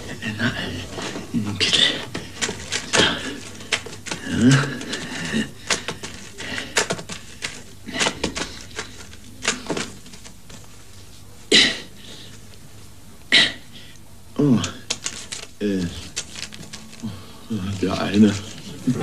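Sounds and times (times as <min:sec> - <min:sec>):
banknotes rustling: 0:00.0 - 0:13.0, 0:14.7 - 0:19.0.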